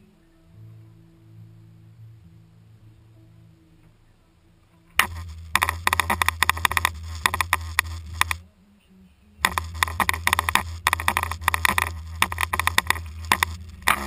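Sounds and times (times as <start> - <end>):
faint low hum: 0.0 - 14.0
vehicle low rumble: 0.0 - 14.0.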